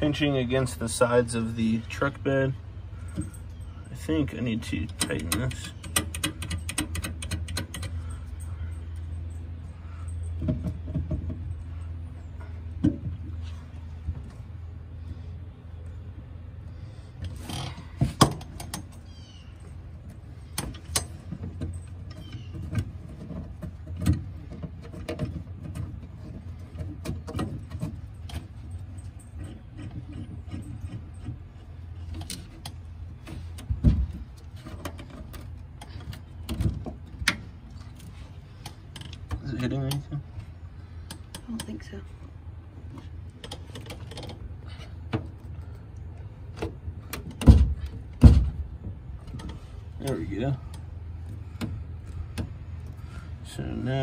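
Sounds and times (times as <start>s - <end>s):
steady low hum: 0.0s - 54.0s
metal clinks and knocks: 2.9s - 13.5s, 17.2s - 53.0s.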